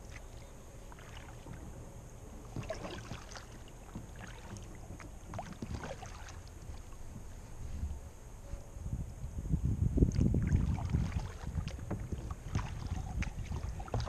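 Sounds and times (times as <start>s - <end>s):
paddle splashes and drips: 0.0s - 7.6s, 10.1s - 14.0s
low steady rumble: 0.0s - 14.0s.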